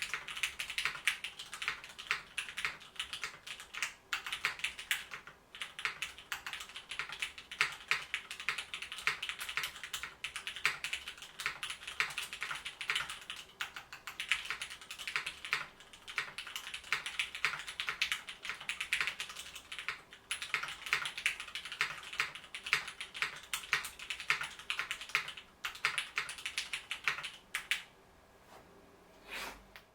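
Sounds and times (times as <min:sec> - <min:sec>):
mechanical keyboard typing: 0:00.0 - 0:27.9.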